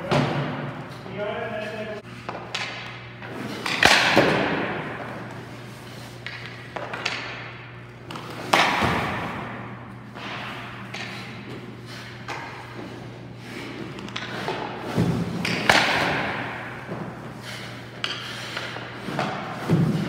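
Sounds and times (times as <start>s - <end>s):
pucks hitting gear and boards: 0.0s - 1.0s, 2.2s - 20.0s
steady low hum: 0.0s - 20.0s.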